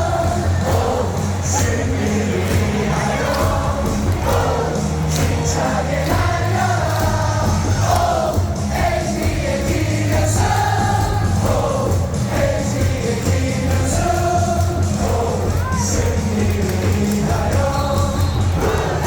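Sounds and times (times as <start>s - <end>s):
loudspeaker music with beat: 0.0s - 19.0s
stadium crowd singing: 0.0s - 19.0s.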